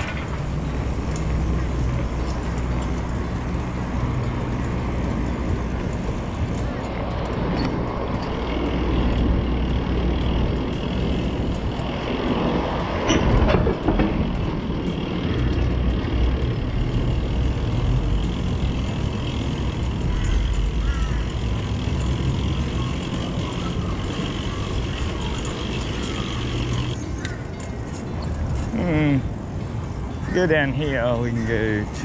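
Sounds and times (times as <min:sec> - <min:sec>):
electric bike motor rumble: 0:00.0 - 0:32.0.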